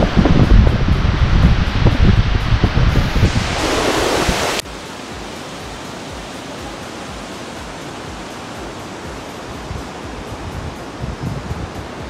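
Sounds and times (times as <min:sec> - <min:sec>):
wind buffeting microphone: 0:00.0 - 0:04.6, 0:05.6 - 0:12.0
rushing river: 0:00.0 - 0:12.0.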